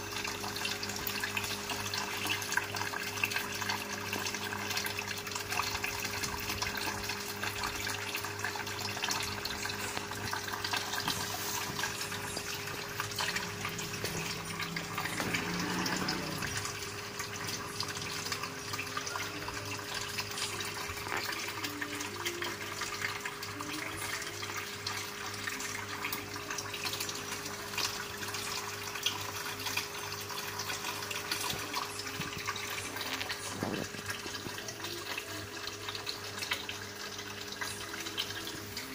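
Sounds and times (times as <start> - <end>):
low electric pump hum: 0.0 - 38.9
water bubbling and trickling: 0.0 - 38.9.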